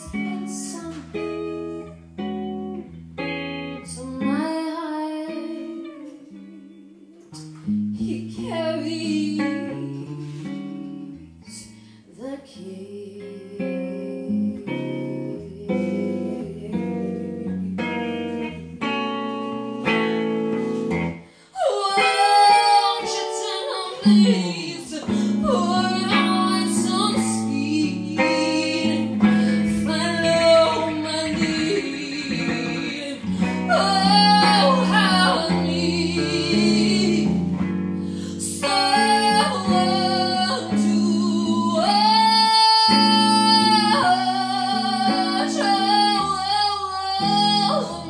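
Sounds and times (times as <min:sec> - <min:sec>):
woman singing with vibrato: 0:00.0 - 0:01.9, 0:03.8 - 0:19.2, 0:21.2 - 0:48.0
electric guitar playing chords: 0:00.0 - 0:11.4, 0:13.8 - 0:21.3, 0:22.1 - 0:48.0.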